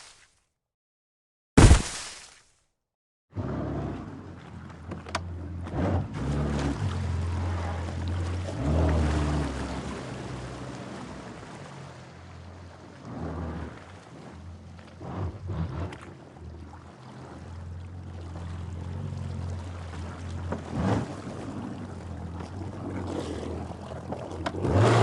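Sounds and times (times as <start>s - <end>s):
water sloshing and splashing: 1.6s - 2.5s, 3.8s - 25.0s.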